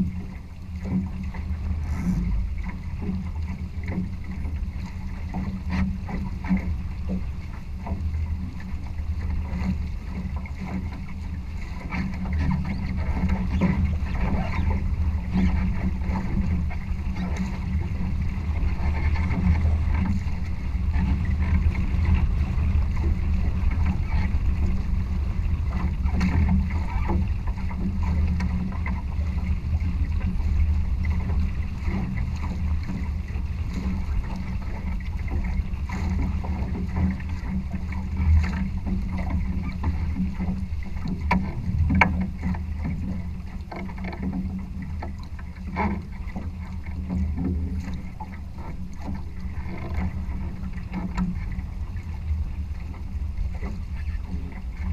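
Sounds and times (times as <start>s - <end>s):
rushing water: 0.0s - 54.9s
water knocking against hull: 0.0s - 54.9s
wind rumble: 0.0s - 54.9s.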